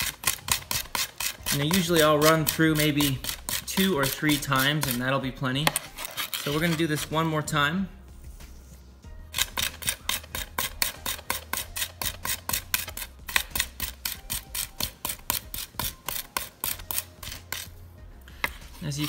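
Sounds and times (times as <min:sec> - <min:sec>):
knife scraping on cutting board: 0:00.0 - 0:07.4, 0:09.4 - 0:19.0.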